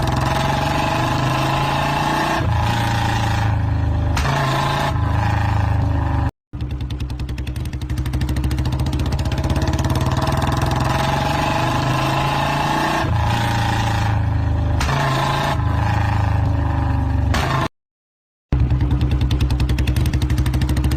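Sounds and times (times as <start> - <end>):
motorcycle engine running: 0.0 - 15.0, 18.5 - 20.9.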